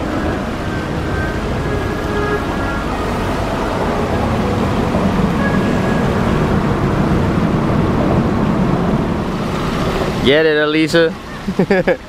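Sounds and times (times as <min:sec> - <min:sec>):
wind buffeting microphone: 0:00.0 - 0:11.5
rumble of freeway traffic: 0:00.0 - 0:12.0.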